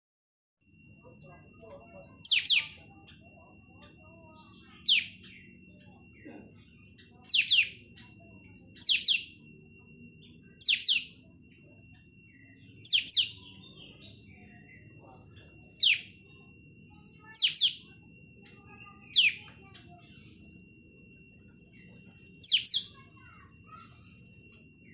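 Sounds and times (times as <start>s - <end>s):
faint steady high tone: 0.6s - 24.9s.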